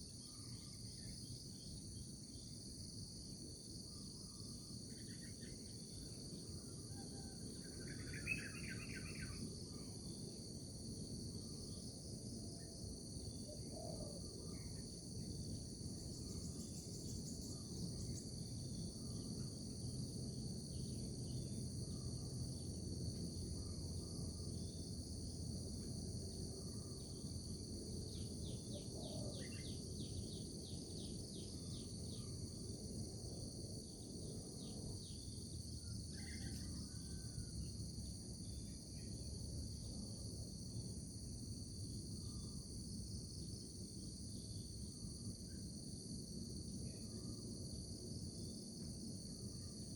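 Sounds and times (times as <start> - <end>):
insect chorus: 0.0 - 49.9.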